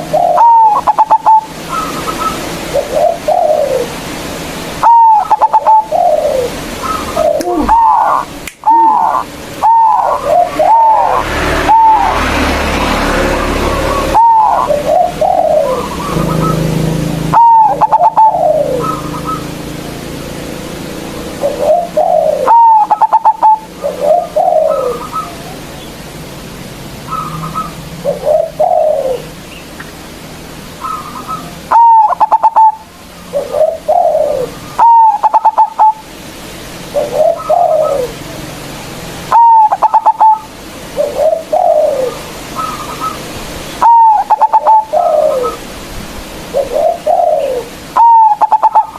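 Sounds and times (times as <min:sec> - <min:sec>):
dove cooing: 0:00.0 - 0:04.2, 0:04.8 - 0:19.7, 0:21.3 - 0:25.7, 0:27.0 - 0:29.4, 0:30.8 - 0:36.1, 0:36.8 - 0:45.8, 0:46.4 - 0:48.9.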